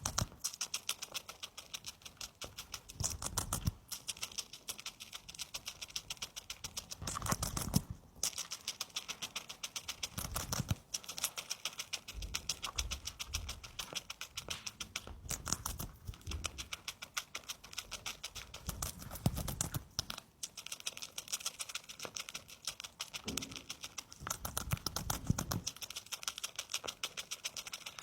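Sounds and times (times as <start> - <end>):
hamster chewing and crunching food: 0.0 - 28.0.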